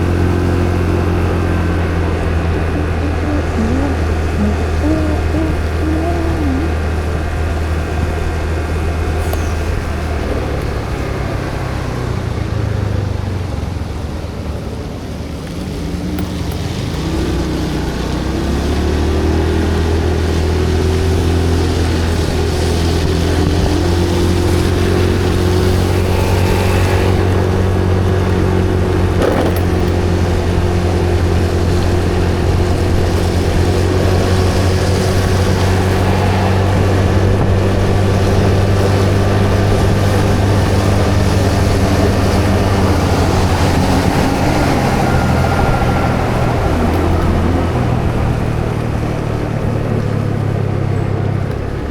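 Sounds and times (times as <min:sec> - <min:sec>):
vehicle engine droning: 0:00.0 - 0:51.9.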